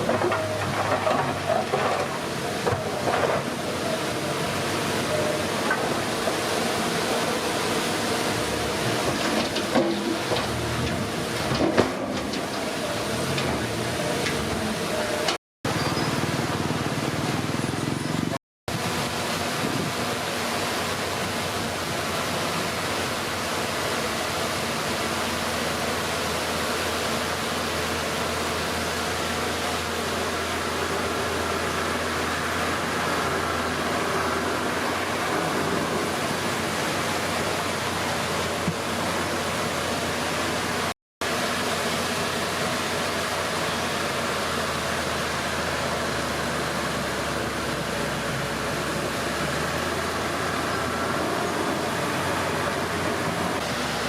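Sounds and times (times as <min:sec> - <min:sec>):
bulldozer diesel engine running: 0:00.0 - 0:19.3, 0:23.8 - 0:54.0.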